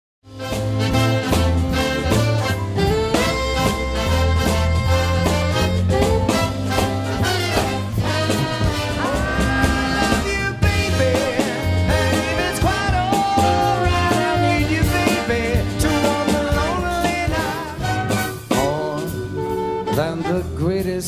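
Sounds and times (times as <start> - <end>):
big band playing swing: 0.2 - 21.0.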